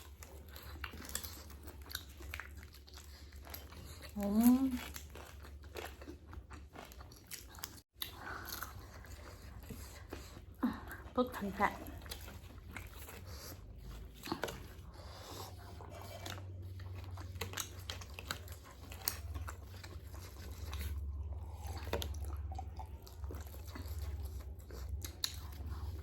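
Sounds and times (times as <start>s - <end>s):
chewing and crunching fried chicken: 0.0s - 26.0s
faint low hum: 0.0s - 26.0s.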